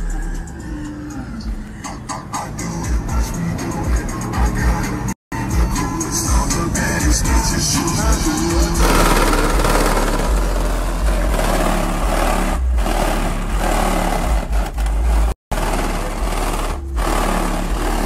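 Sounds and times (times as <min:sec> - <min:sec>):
bass-heavy music on car subwoofers: 0:00.0 - 0:18.0.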